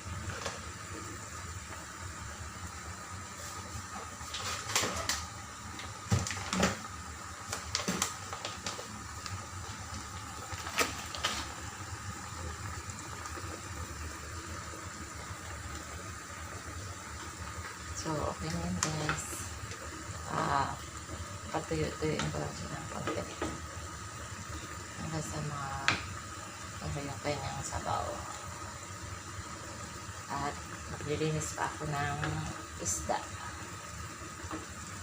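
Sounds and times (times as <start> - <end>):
pot simmering and bubbling: 0.0 - 35.0.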